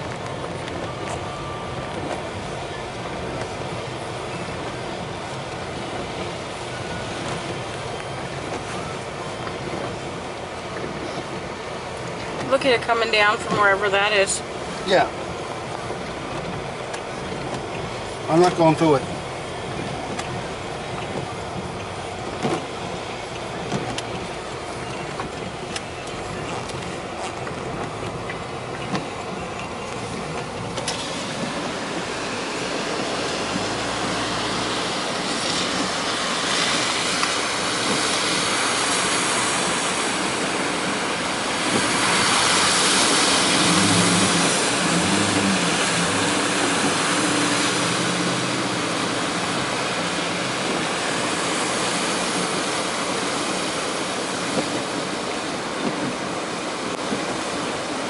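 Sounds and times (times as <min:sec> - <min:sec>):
floodwater rushing: 0:00.0 - 0:58.0
tyres splashing through water: 0:00.0 - 0:58.0
vehicle engine: 0:00.0 - 0:58.0.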